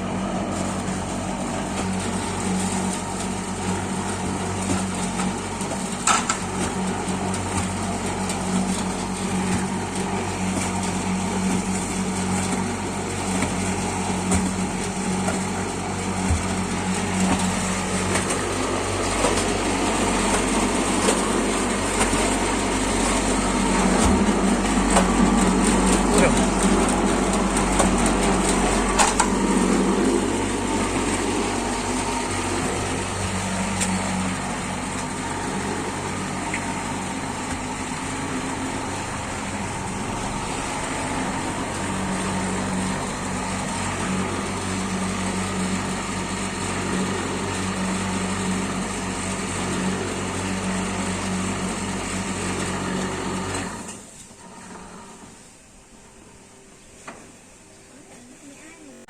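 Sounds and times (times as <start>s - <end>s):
concrete mixer running: 0.0s - 56.9s.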